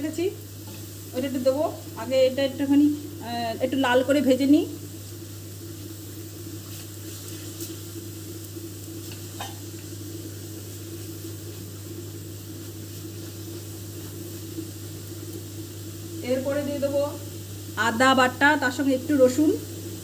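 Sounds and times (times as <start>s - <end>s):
paste sizzling in oil: 0.0s - 20.0s.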